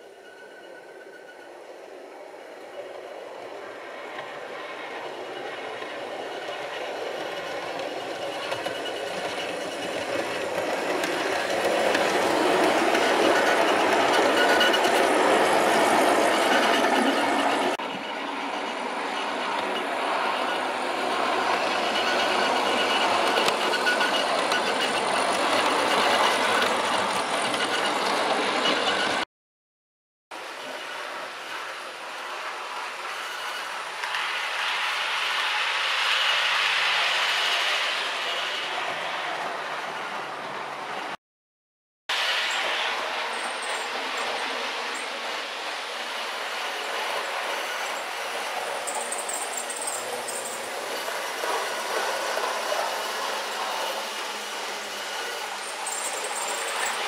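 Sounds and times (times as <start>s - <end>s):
model train running on track: 0.0s - 29.2s, 30.4s - 41.2s, 42.1s - 57.0s.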